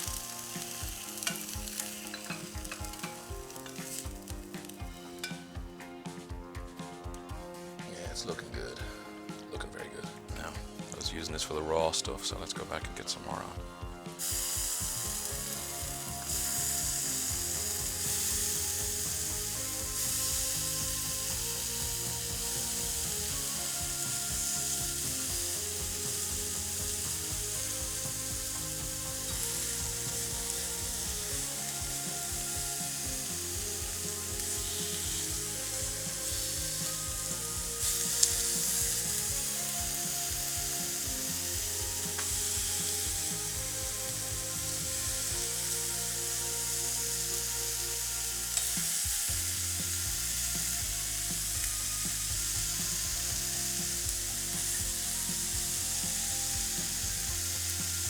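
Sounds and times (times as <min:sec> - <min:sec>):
chicken sizzling in a frying pan: 0:00.0 - 0:05.8, 0:14.2 - 0:58.0
background music: 0:00.0 - 0:58.0.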